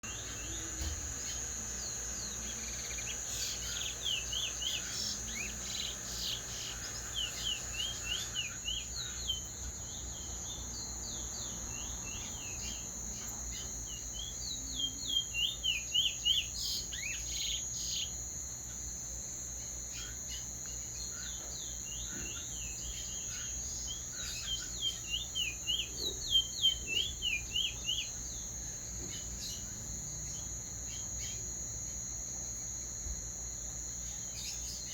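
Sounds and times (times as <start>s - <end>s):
songbird singing: 0.0s - 19.0s, 19.7s - 34.9s
high insect whine: 0.0s - 34.9s.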